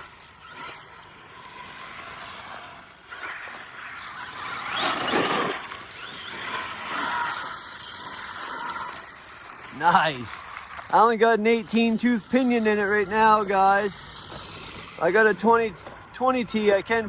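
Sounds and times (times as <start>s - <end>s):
electric motor whining: 0.0s - 17.0s
tyres rolling: 0.0s - 17.0s.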